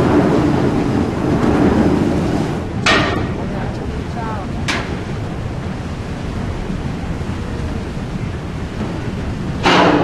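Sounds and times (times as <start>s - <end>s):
ferry engine rumble: 0.0s - 10.0s
wind on microphone: 0.0s - 10.0s.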